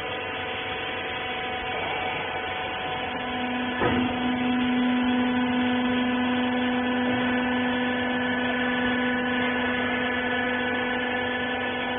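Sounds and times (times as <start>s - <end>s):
electric motor and pump humming: 0.0s - 11.9s.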